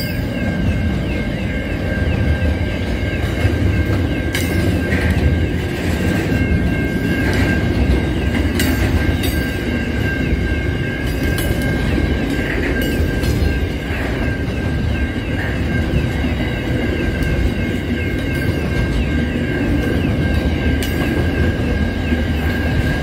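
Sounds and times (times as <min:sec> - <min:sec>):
freight train wagons rumbling: 0:00.0 - 0:23.0
wheels clicking over rail joints: 0:00.0 - 0:23.0.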